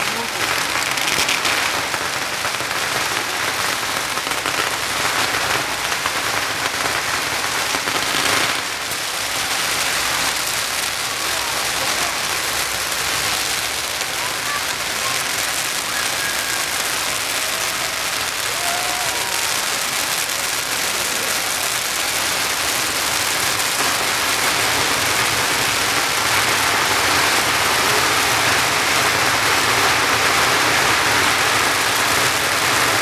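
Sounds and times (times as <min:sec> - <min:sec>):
firecrackers crackling: 0:00.0 - 0:33.0.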